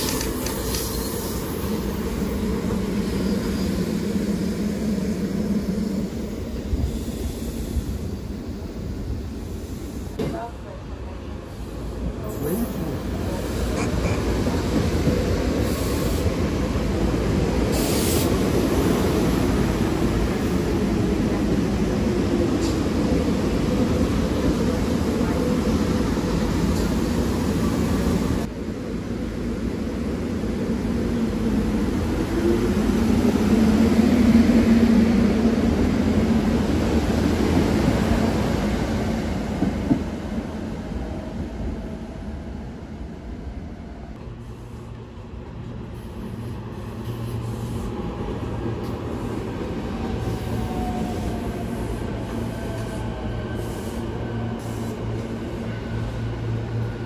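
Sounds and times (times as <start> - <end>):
electric train hum: 0.0 - 57.0
electric train rolling past: 0.0 - 57.0.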